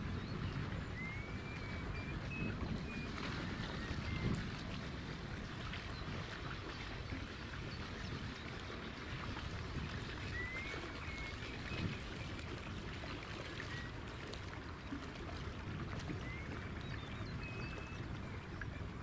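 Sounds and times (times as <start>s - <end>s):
water rushing around boat: 0.0s - 19.0s
wind: 0.0s - 19.0s.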